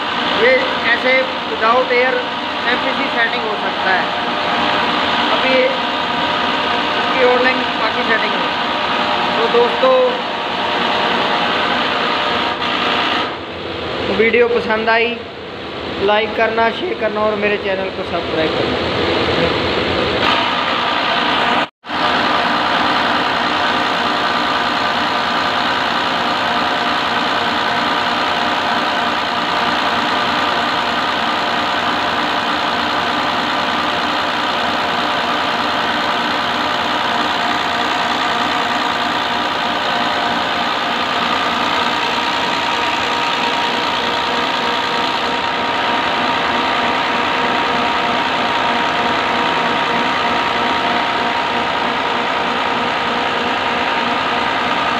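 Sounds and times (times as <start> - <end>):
diesel injection pump running: 0.0 - 54.9.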